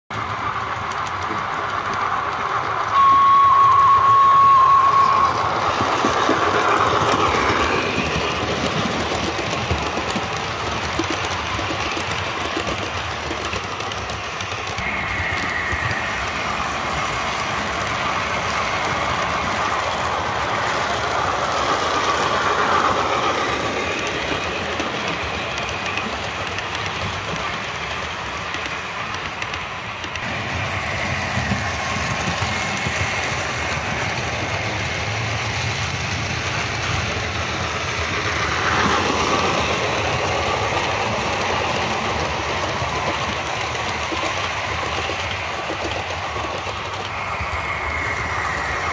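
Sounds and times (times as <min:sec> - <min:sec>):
model trains rumbling on track: 0:00.1 - 0:48.9
passing train whine: 0:00.1 - 0:48.9.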